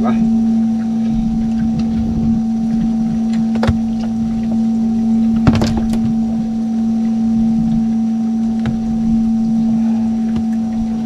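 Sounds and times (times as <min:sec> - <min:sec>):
steady motor hum: 0:00.0 - 0:11.0.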